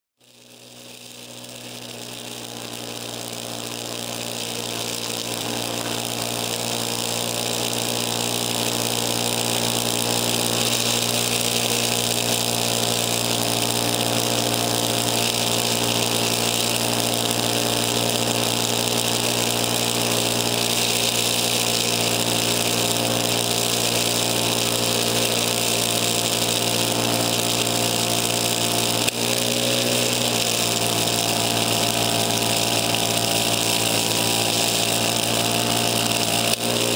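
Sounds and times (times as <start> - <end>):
snow hissing from chute: 0.2 - 36.9
snowblower engine running: 0.2 - 36.9.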